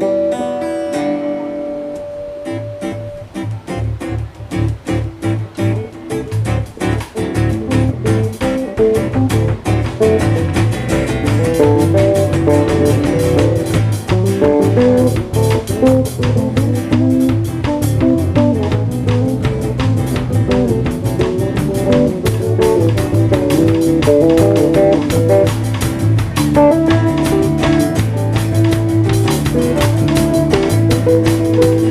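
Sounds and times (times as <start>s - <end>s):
bass guitar: 0.0s - 31.9s
electric guitar: 0.0s - 31.9s
drum kit beat: 3.0s - 31.9s.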